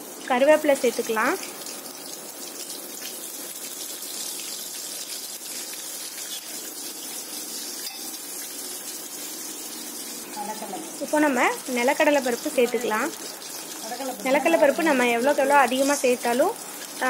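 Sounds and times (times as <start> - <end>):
leaves and seeds sizzling in oil: 0.0 - 17.0.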